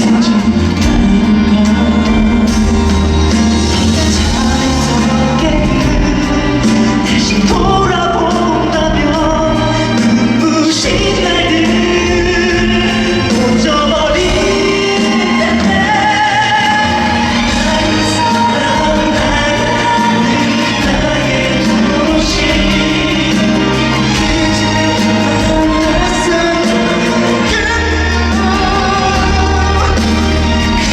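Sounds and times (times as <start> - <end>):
live band accompaniment: 0.0 - 30.9
man singing pop ballad: 0.0 - 30.9.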